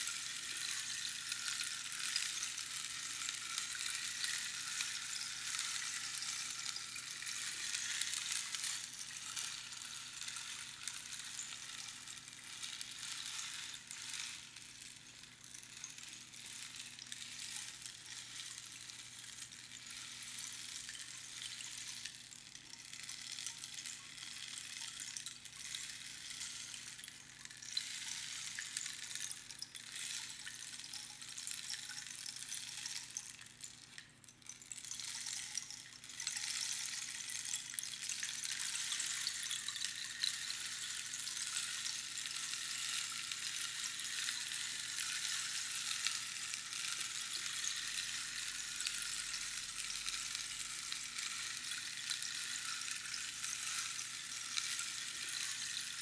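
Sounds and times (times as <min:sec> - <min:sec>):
rainstick pebbles trickling: 0:00.0 - 0:56.0.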